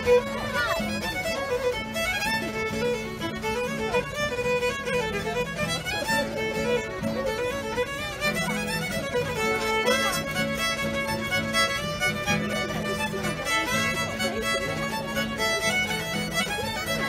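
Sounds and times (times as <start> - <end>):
bowed fiddle: 0.0 - 17.0.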